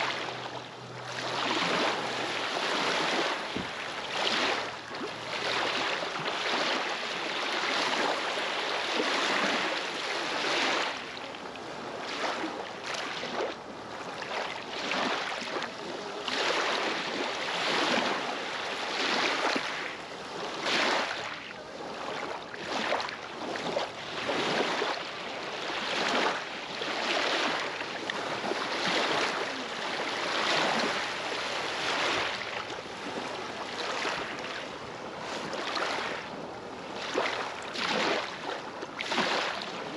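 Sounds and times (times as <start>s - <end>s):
waves lapping on shore: 0.0s - 39.9s.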